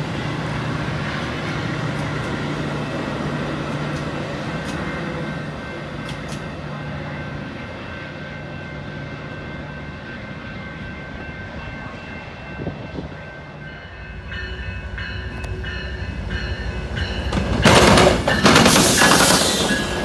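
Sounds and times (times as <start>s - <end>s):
train approaching: 0.0s - 20.0s
train wheels rumbling on rail: 0.0s - 20.0s.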